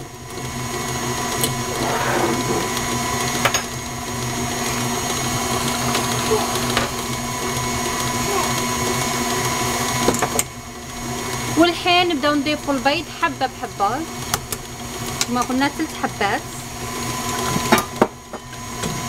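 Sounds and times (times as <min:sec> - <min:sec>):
stand mixer running: 0:00.0 - 0:19.0.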